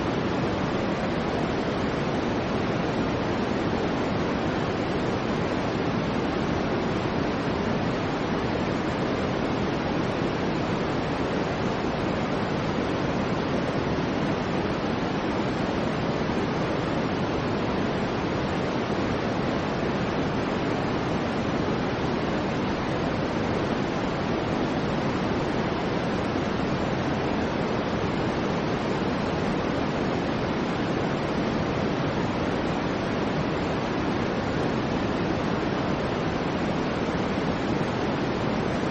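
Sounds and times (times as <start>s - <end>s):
steady synthetic noise: 0.0s - 38.9s.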